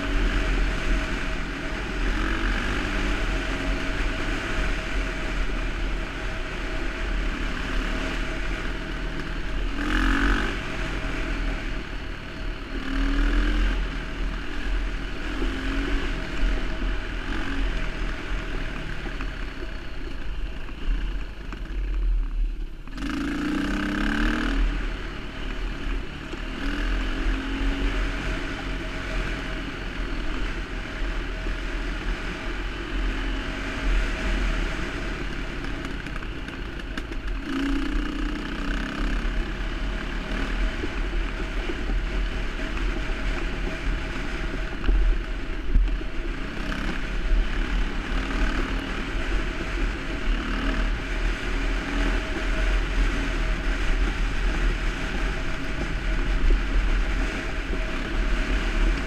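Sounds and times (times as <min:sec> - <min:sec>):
dirt bike engine revving: 0:00.0 - 0:21.7, 0:22.9 - 0:59.0
low rumble: 0:00.0 - 0:59.0.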